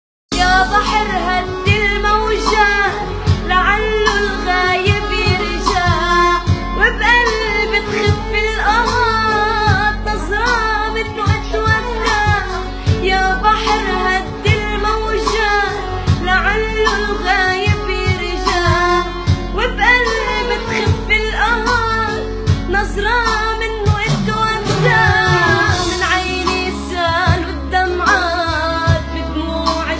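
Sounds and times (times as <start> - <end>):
steady drum beat: 0.3 - 29.2
high singing voice: 0.3 - 29.9.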